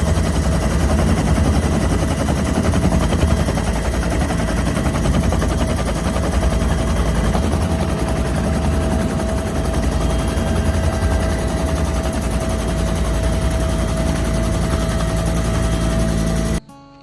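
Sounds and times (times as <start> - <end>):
helicopter rotor chop: 0.0 - 16.6
turbine whine: 0.0 - 16.6.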